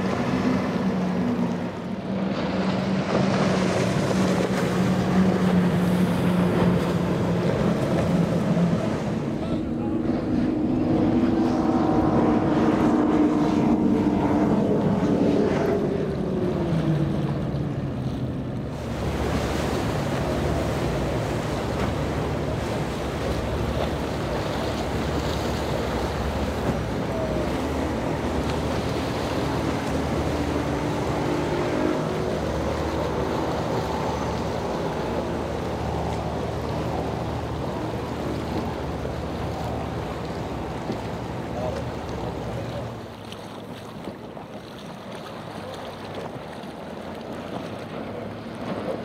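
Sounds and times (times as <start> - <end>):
motorboat engines droning: 0.0 - 49.0
waves and surf: 0.0 - 49.0.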